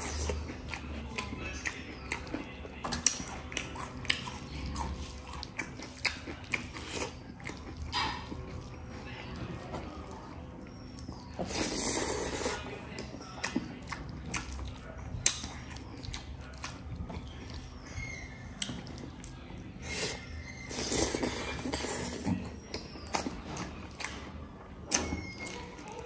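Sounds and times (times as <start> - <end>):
person chewing and smacking: 0.0 - 26.0
wet eating noise: 0.0 - 26.0.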